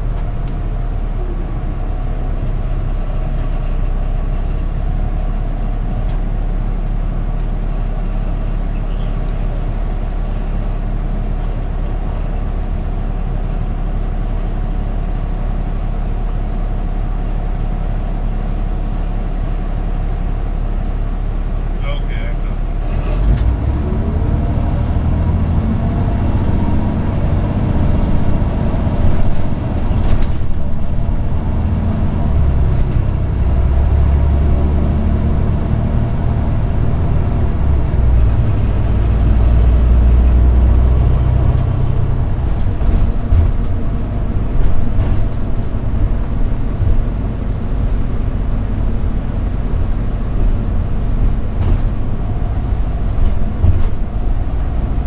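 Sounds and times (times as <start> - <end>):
diesel bus engine accelerating: 0.0 - 55.0
road noise: 0.0 - 55.0.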